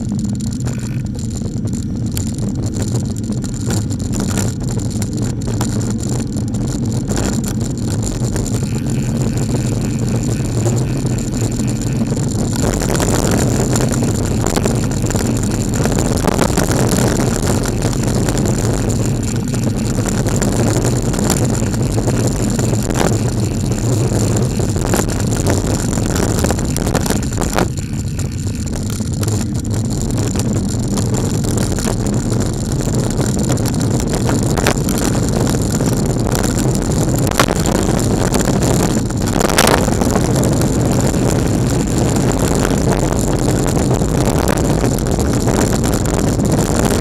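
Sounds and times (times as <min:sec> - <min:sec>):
lorry diesel engine running: 0:00.0 - 0:47.0
wind and road noise: 0:00.0 - 0:47.0.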